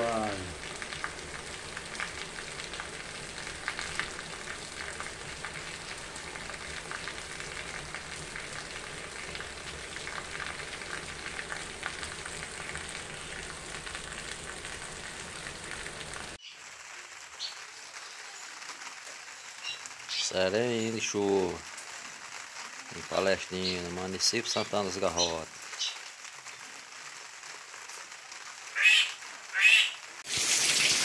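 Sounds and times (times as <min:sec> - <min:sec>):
heavy rain: 0:00.0 - 0:31.0
water pouring onto concrete: 0:00.0 - 0:31.0.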